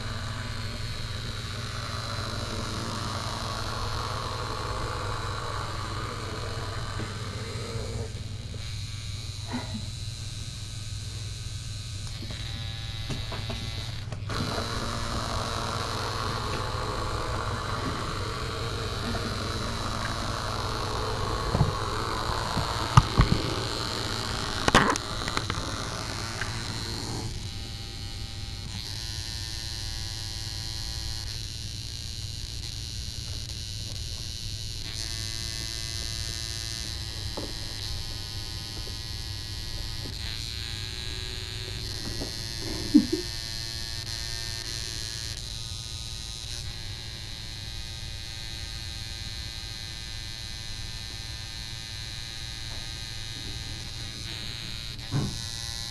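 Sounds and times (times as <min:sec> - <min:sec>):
electrical hum with high whine: 0:00.0 - 0:55.9.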